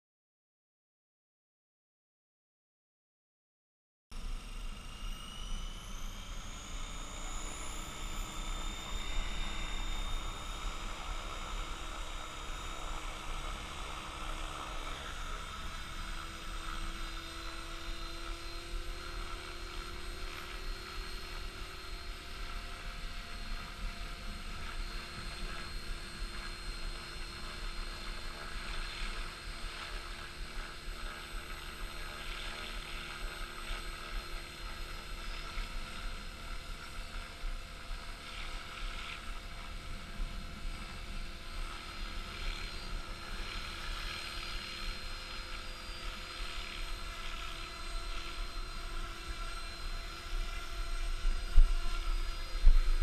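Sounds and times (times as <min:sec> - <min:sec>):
model helicopter rotor whine: 0:04.1 - 0:53.0.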